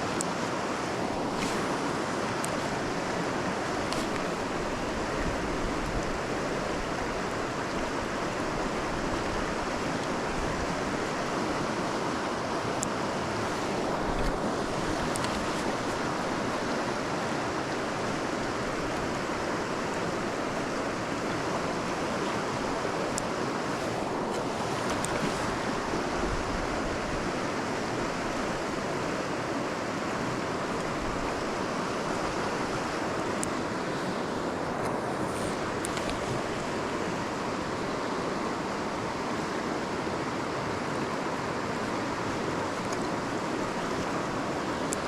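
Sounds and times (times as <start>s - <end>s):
creek rushing over its bed: 0.0s - 45.0s.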